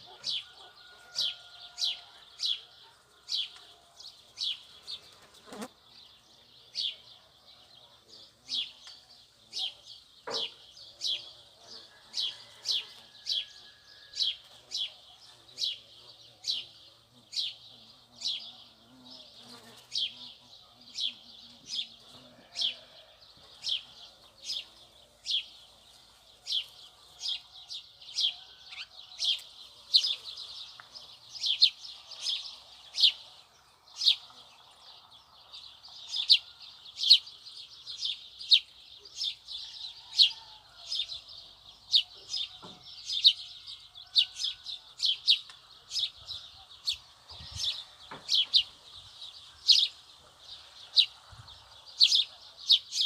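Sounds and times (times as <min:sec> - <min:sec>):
faint background chirping: 0:00.0 - 0:53.0.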